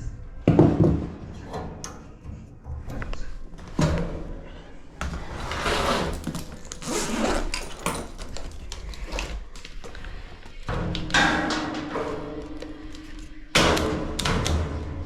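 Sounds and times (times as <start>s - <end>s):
tools scraping and rattling: 1.3s - 15.0s.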